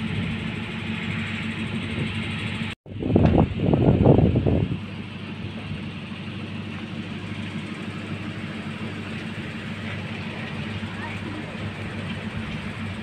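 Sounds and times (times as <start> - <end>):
loud rumbling burst: 0.0 - 13.0
vehicle engine and road drone: 0.0 - 13.0.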